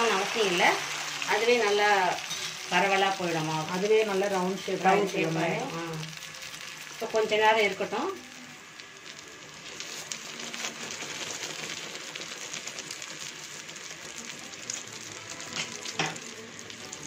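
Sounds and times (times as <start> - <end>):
batter sizzling in hot oil: 0.0 - 17.0.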